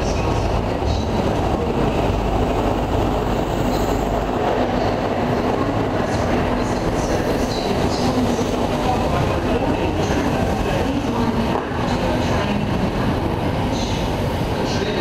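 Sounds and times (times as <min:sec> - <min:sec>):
diesel locomotive passing: 0:00.0 - 0:15.0
train coaches rumbling past: 0:00.0 - 0:15.0.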